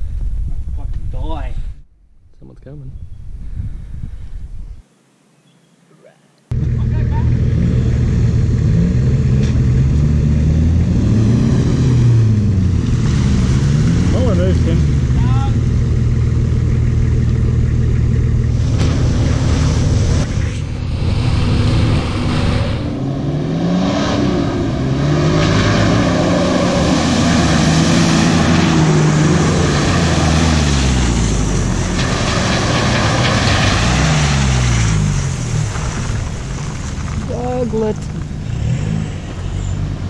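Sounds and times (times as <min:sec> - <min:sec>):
vehicle engine revving: 0:06.5 - 0:40.0.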